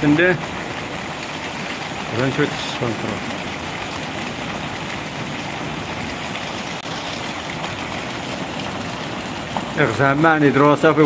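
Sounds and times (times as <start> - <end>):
heavy rain: 0.0 - 11.0
river rushing in flood: 0.0 - 11.0.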